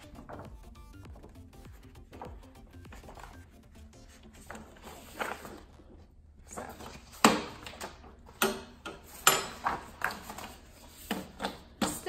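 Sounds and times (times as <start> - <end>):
stiff paper rustling and flapping: 0.0 - 8.4, 9.0 - 11.8.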